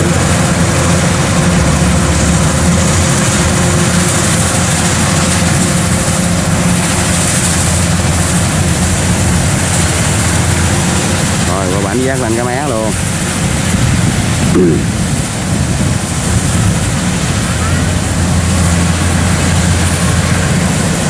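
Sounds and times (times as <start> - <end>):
combine harvester engine drone: 0.0 - 21.0
machinery rushing noise: 0.0 - 21.0.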